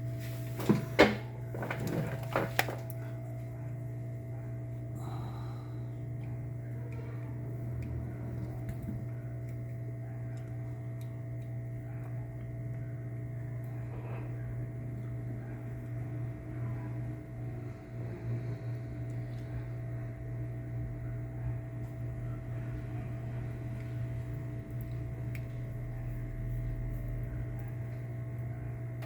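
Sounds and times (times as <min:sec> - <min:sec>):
blower fan humming: 0:00.0 - 0:29.0.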